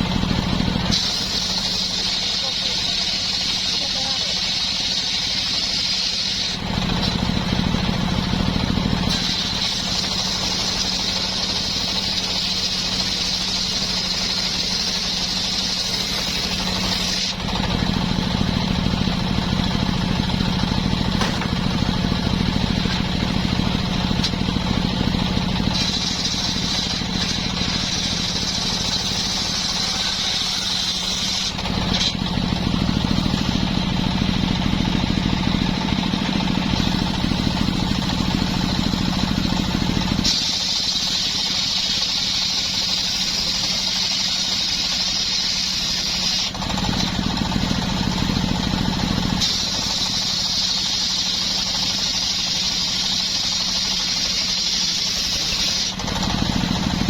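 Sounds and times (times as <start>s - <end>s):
chainsaw cutting wood: 0.0s - 17.4s, 21.0s - 33.7s, 36.7s - 57.0s.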